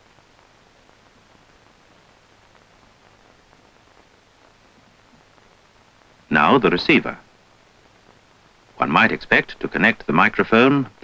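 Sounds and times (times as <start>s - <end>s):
faint crackles: 0.0s - 11.0s
film soundtrack hiss: 0.0s - 11.0s.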